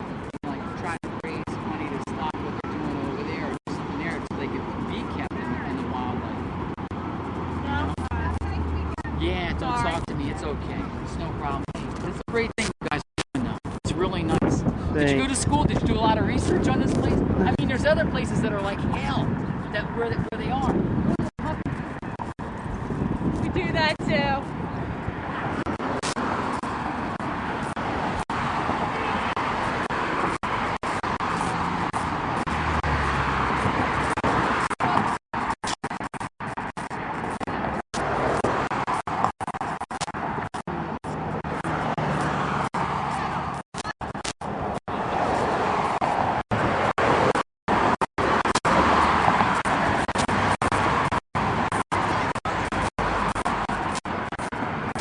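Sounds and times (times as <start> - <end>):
street traffic noise: 0.0 - 55.0.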